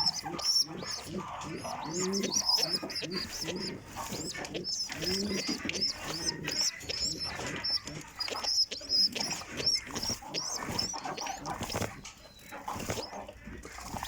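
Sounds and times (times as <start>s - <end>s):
birds chirping: 0.0s - 14.0s
low animal sounds: 0.0s - 14.0s.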